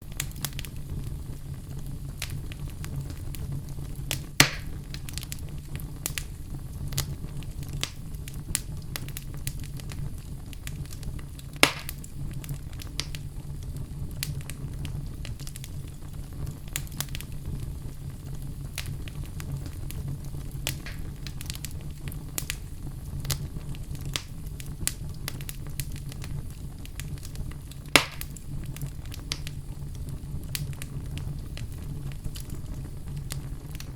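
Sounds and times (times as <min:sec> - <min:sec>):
fire pops: 0:00.0 - 0:33.9
wood fire crackling: 0:00.0 - 0:33.9.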